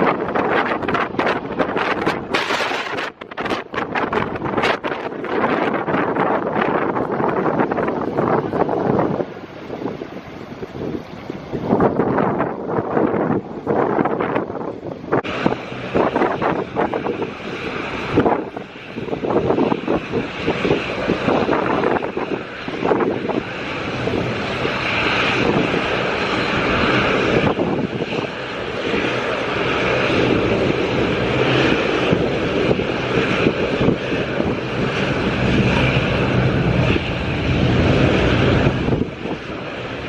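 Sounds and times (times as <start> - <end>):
jet engines roaring: 0.0 - 40.0
wind buffeting microphone: 0.0 - 40.0.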